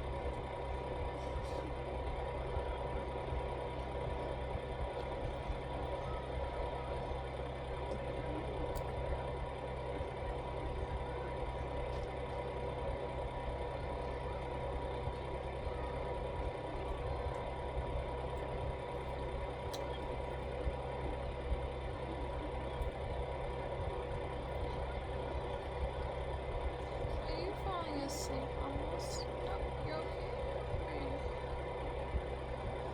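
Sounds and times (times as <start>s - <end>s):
low mechanical rumble: 0.0s - 32.9s.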